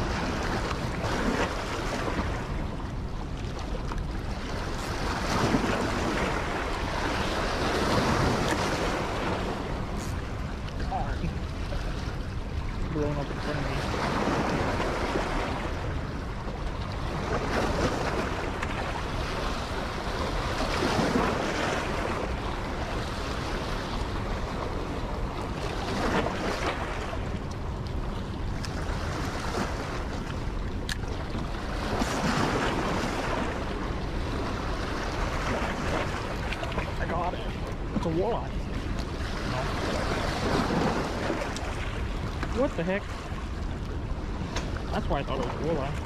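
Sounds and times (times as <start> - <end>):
rushing water: 0.0 - 46.0.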